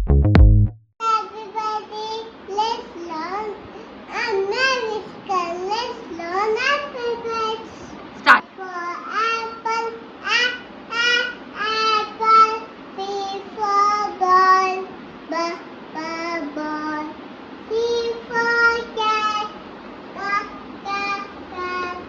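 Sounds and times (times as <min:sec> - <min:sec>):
child chanting in sing-song: 0:01.0 - 0:07.8, 0:08.4 - 0:19.6, 0:20.2 - 0:22.0.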